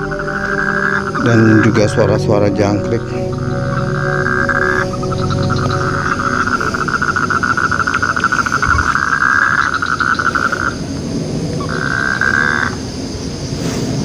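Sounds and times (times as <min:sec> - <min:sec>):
frogs trilling: 0:00.0 - 0:13.5
faint cricket chirping: 0:00.0 - 0:14.0.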